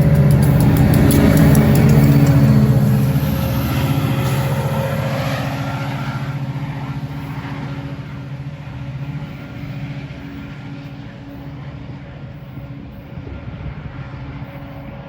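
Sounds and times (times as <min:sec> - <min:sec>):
diesel locomotive engine throbbing: 0:00.0 - 0:15.0.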